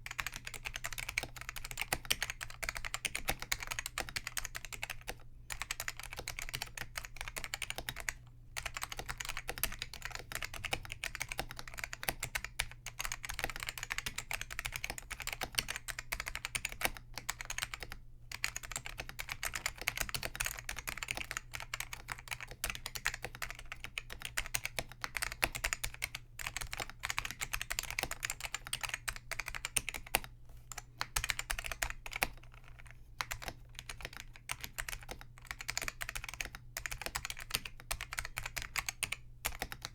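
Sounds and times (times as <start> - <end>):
fast keyboard typing: 0.1 - 39.9.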